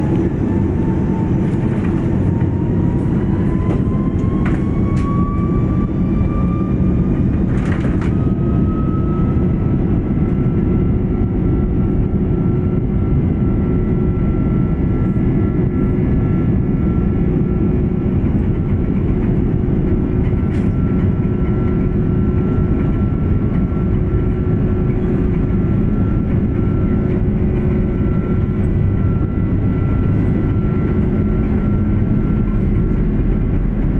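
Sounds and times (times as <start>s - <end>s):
jet engines spooling up: 0.0s - 33.9s.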